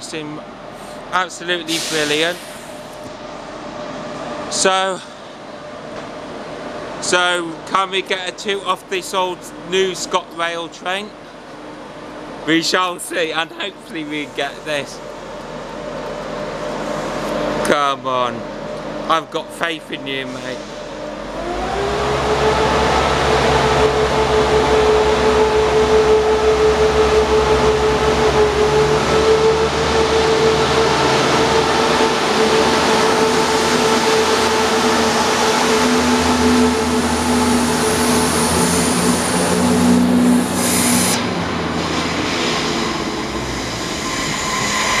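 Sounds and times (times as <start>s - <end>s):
diesel train engine whine: 0.0s - 45.0s.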